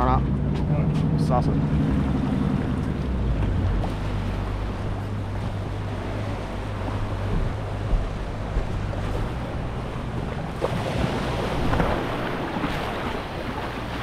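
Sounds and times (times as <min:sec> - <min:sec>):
outboard motor running: 0:00.0 - 0:14.0
water wash: 0:00.0 - 0:14.0.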